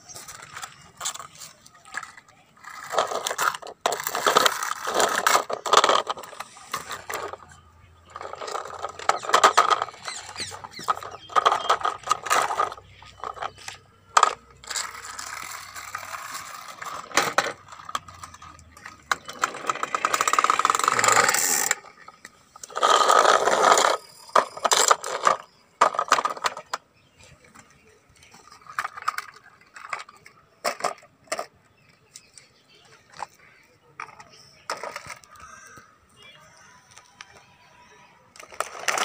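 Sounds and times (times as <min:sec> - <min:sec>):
toy car wheels scraping concrete: 0:00.0 - 0:35.8, 0:38.3 - 0:39.0
plastic clacks: 0:00.1 - 0:35.9, 0:38.3 - 0:39.0.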